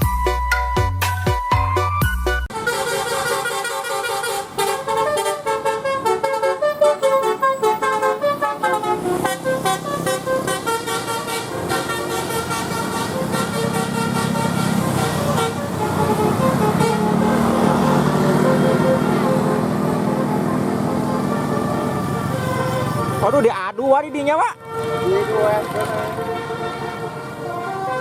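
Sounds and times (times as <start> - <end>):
multi-tone air horn tooting: 2.5 - 28.0.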